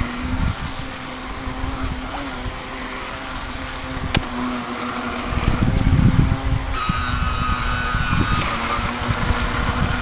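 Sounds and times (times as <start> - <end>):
electric motor whine: 0.0 - 10.0
low rumbling: 0.0 - 10.0
water splashing from wake: 0.0 - 10.0.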